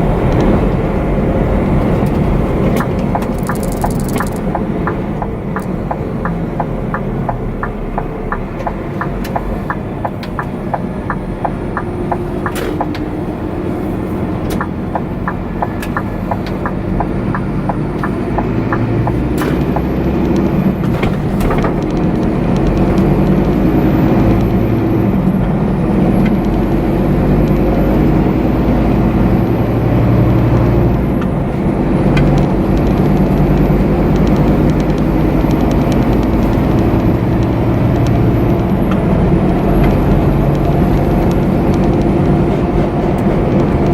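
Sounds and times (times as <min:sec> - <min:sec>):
lorry diesel engine driving: 0:00.0 - 0:43.9
quick regular ticking: 0:01.6 - 0:28.3, 0:31.2 - 0:43.9.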